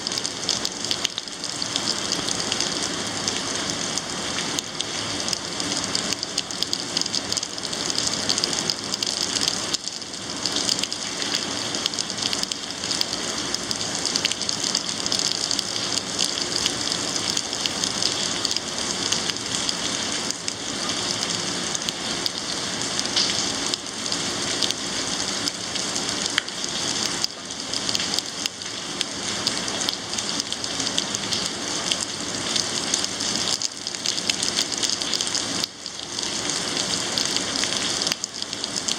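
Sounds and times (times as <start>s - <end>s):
raindrops ticking nearby: 0.0s - 38.9s
steady rain falling: 0.0s - 38.9s.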